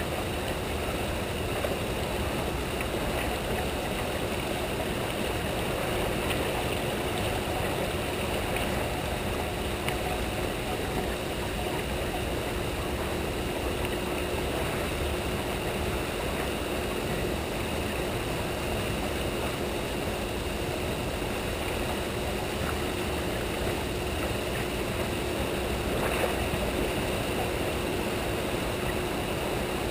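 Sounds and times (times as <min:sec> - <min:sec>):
churning water rushing: 0:00.0 - 0:29.9
faint steady hum: 0:00.0 - 0:29.9.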